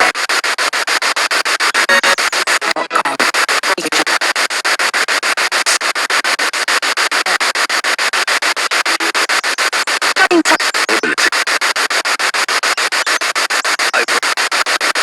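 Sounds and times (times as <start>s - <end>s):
radio static chopping: 0.0s - 15.0s.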